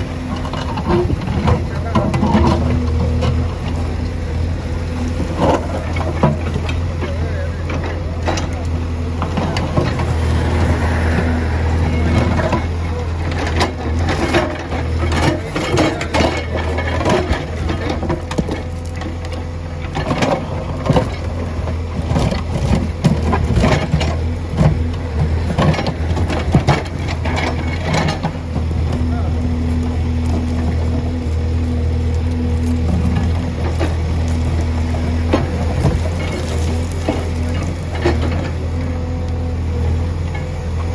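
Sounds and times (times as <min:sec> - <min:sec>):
bucket scraping asphalt and stones: 0:00.0 - 0:39.1
diesel engine running: 0:00.0 - 0:40.9.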